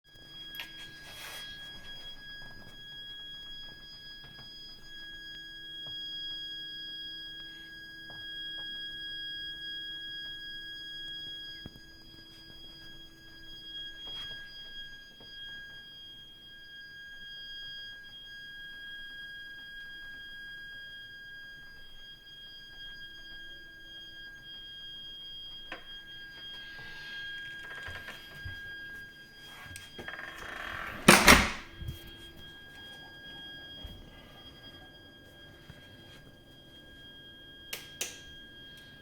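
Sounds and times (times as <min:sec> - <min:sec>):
high-pitched shrieking whistle: 0:00.1 - 0:39.0.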